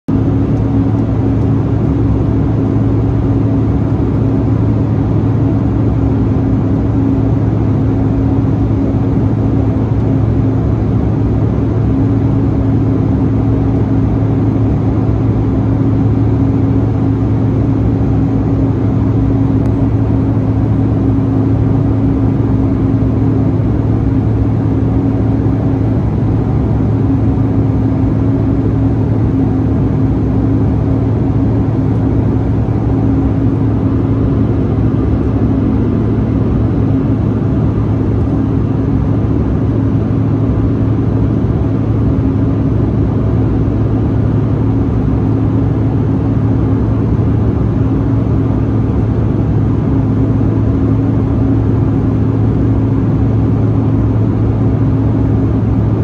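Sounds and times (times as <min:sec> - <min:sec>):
low engine hum: 0:00.0 - 0:56.0
airflow rushing in cabin: 0:00.1 - 0:56.0.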